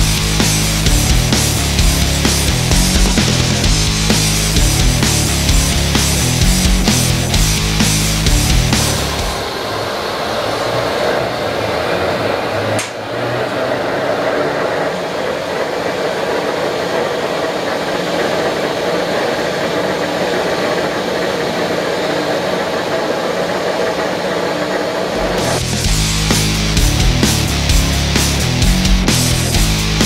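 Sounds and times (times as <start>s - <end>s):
lathe table spinning whir: 0.0s - 28.4s.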